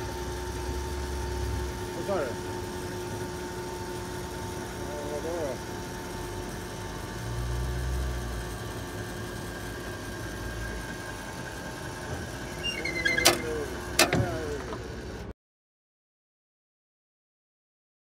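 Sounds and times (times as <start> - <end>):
diesel engine running: 0.0 - 15.3.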